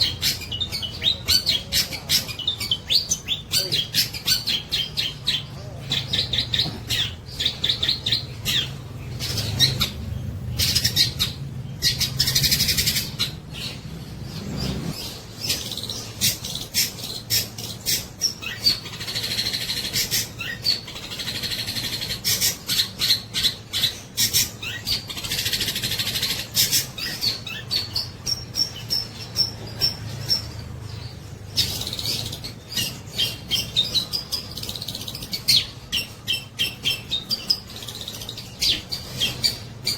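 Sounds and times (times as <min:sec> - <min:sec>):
harsh rasping bird calls: 0:00.0 - 0:39.9
shrike chattering song: 0:00.0 - 0:39.9.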